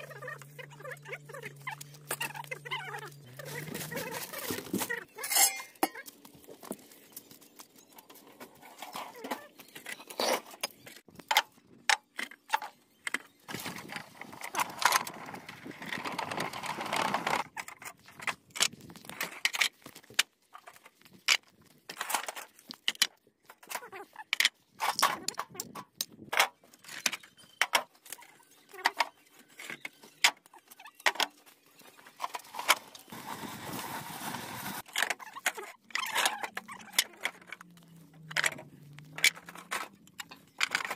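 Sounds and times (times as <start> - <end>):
scraping and rustling: 0.0 - 11.0, 13.5 - 40.9.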